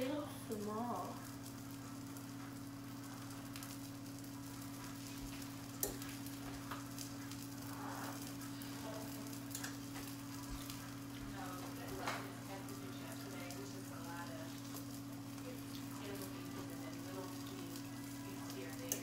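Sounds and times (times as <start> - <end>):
low constant hum: 0.0 - 19.0
patty sizzling in frying pan: 0.0 - 19.0.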